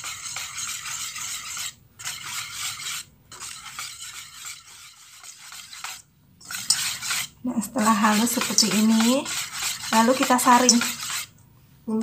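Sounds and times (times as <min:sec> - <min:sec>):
utensil scraping mixing bowl: 0:00.0 - 0:11.4.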